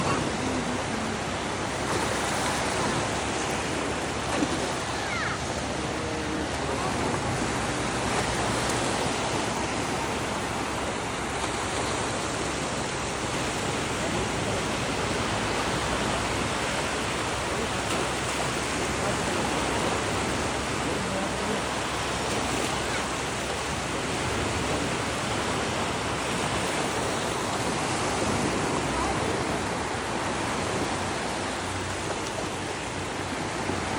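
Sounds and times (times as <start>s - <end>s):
waves breaking on shore: 0.0s - 33.9s.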